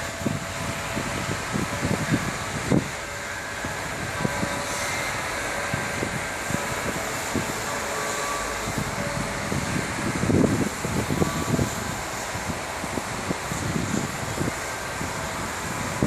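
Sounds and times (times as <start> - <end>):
wind thumping on microphone: 0.0 - 7.7, 8.6 - 16.0
city traffic rush: 0.0 - 16.0.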